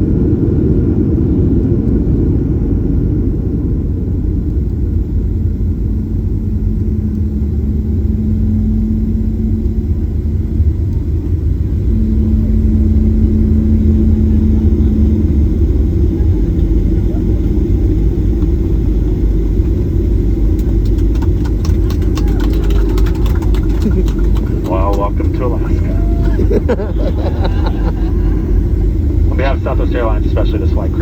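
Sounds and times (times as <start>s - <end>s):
rumble of engines and wheels: 0.0s - 31.0s
steady cabin hum: 0.0s - 31.0s.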